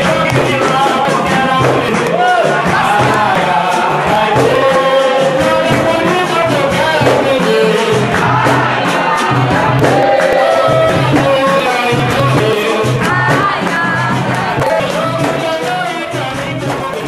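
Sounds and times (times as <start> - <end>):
group of voices singing: 0.0 - 17.0
rhythmic hand percussion: 0.0 - 17.0.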